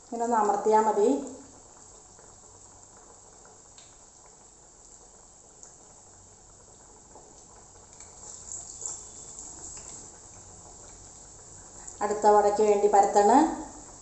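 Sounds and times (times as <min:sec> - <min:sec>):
fritters sizzling in oil: 0:00.0 - 0:14.0.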